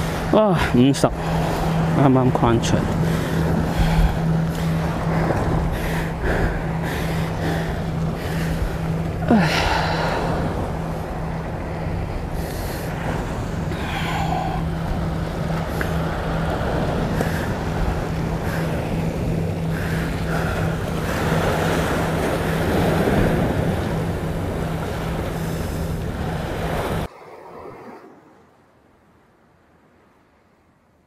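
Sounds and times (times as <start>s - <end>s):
steady low hum: 0.0s - 27.1s
wind buffeting microphone: 0.0s - 28.3s.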